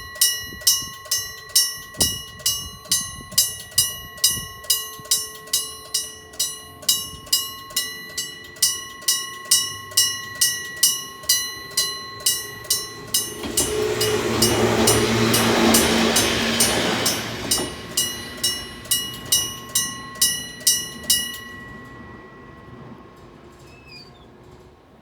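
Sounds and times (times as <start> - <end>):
railroad crossing bell: 0.0 - 25.0
train running: 0.0 - 25.0.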